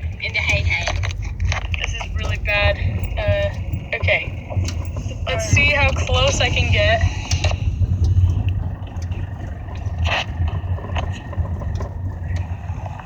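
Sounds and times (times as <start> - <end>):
car engine and road rumble: 0.0 - 13.0
faint ticks: 0.0 - 13.0.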